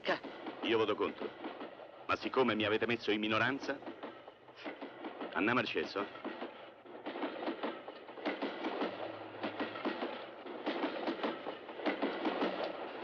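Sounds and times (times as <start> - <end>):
railway carriage rattling: 0.0 - 13.0
wheels clicking and knocking: 0.0 - 13.0.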